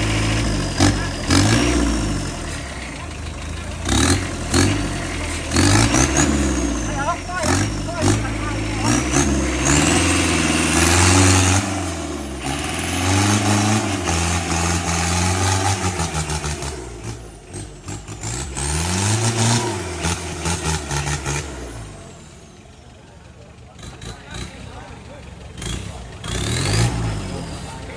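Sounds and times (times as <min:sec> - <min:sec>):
pickup engine revving: 0:00.0 - 0:27.9.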